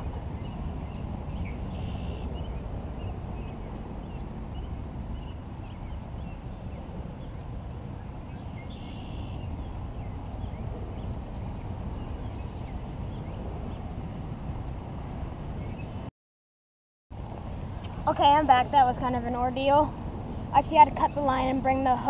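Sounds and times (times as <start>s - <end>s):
low outdoor rumble: 0.0s - 16.1s, 17.2s - 22.0s.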